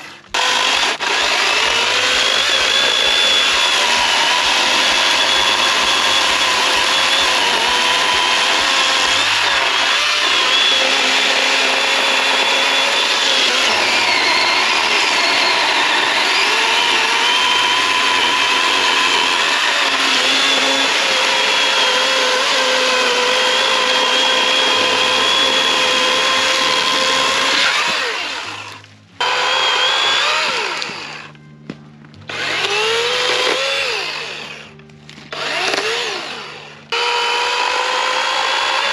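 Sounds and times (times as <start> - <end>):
electric chainsaw cutting wood: 0.0 - 31.4, 32.2 - 38.9.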